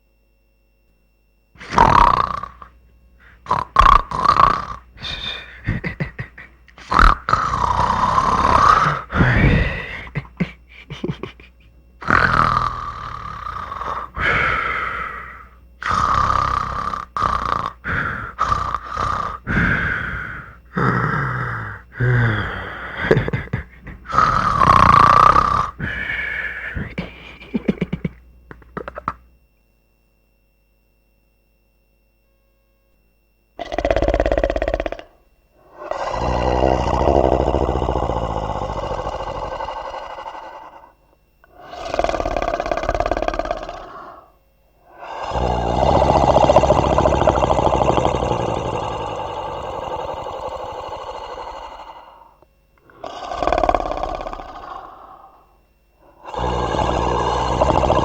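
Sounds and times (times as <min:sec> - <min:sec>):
comic snoring and snorts: 0:01.6 - 0:29.2, 0:33.6 - 0:58.0.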